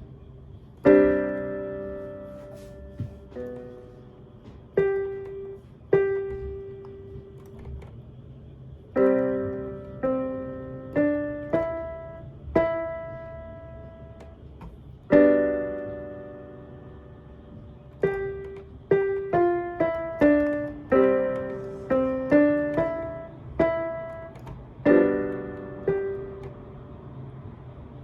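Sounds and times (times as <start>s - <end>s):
electronic keyboard piano notes: 0.0s - 28.0s.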